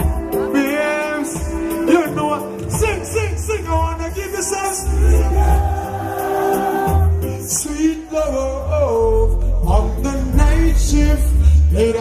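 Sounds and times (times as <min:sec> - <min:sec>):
reggae song: 0:00.0 - 0:12.0.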